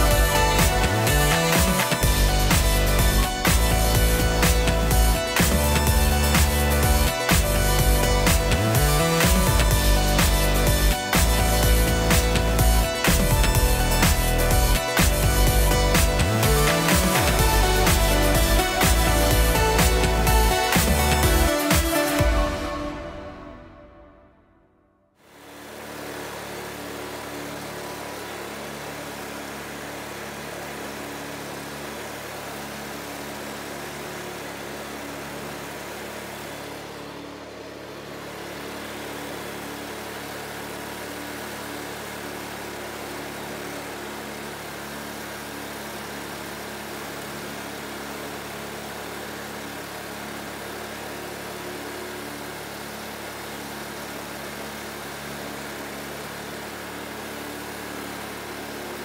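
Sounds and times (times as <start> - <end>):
ride-on mower engine running: 0.0 - 24.1, 25.2 - 59.0.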